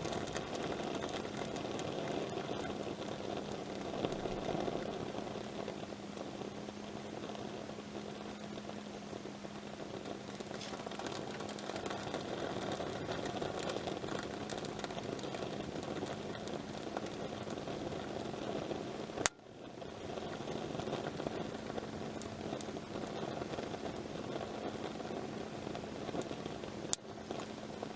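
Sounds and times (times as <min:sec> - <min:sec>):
campfire crackling: 0:00.0 - 0:27.9
faint steady hum: 0:00.0 - 0:27.9.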